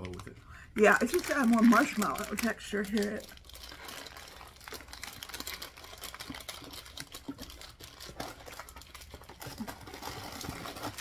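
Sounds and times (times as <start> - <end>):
snack packaging rustling: 0.0 - 11.0.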